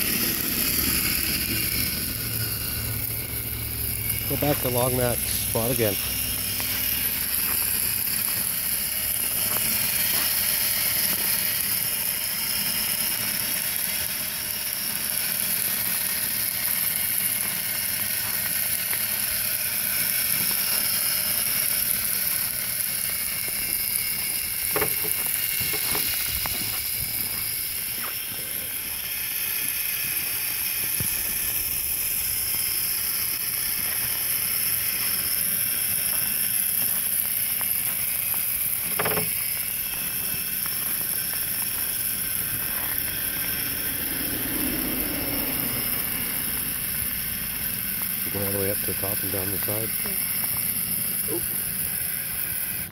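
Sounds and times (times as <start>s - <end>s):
toy truck motor whine: 0.0s - 52.9s.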